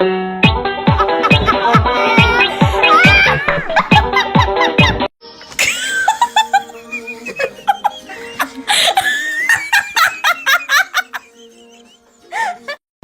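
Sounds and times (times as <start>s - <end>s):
background music: 0.0s - 12.8s
high-pitched giggling laughter: 1.0s - 5.0s, 5.6s - 12.8s.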